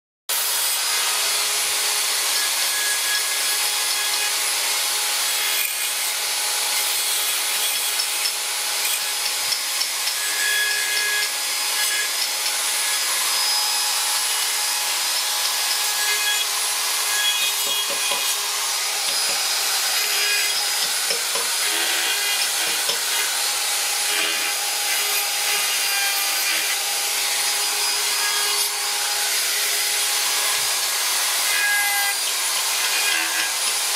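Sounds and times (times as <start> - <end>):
rotary tool grinding wood: 0.3 - 33.9.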